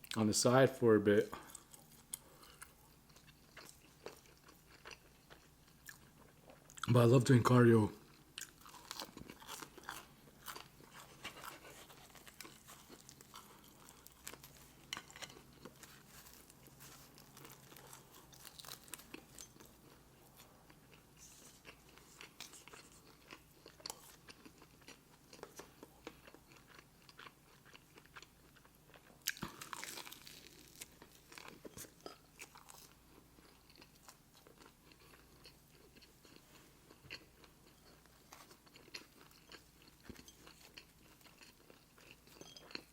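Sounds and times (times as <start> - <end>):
person chewing food: 1.3 - 6.9, 8.0 - 42.9.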